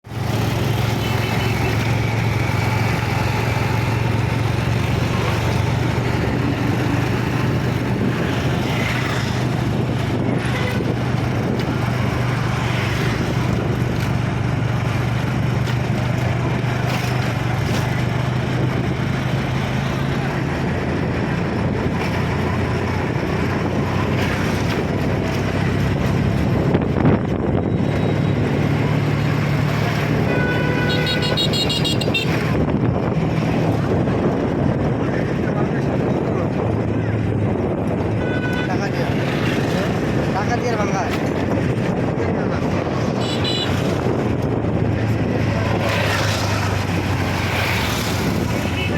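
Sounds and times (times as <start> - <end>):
noisy rush: 0.0 - 48.9.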